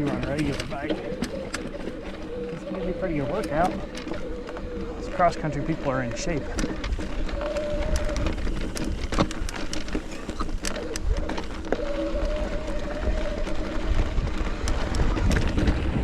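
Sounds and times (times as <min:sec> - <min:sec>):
bike rattling over rocks: 0:00.0 - 0:16.0
wind rumble on microphone: 0:00.0 - 0:16.0.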